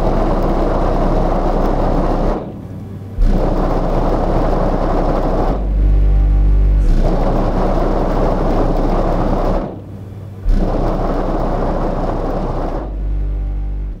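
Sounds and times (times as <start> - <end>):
dubstep bass through subwoofer: 0.0 - 14.0.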